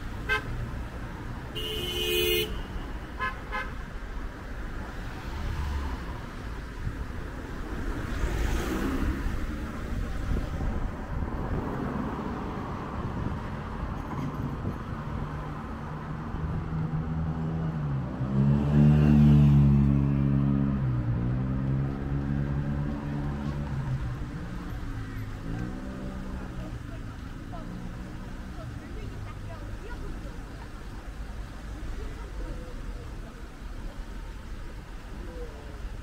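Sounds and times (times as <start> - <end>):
cars driving past: 0.0 - 36.0.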